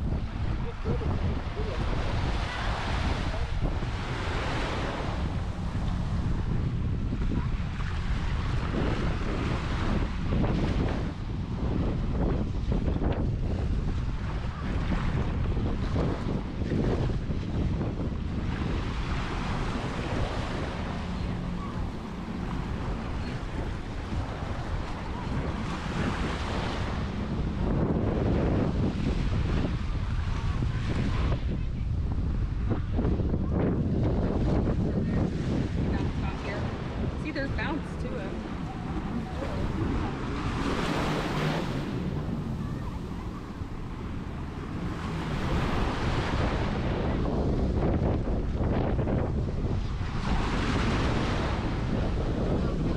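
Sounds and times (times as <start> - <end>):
surf washing on sandy beach: 0.0 - 52.9
wind buffeting microphone: 0.0 - 52.9.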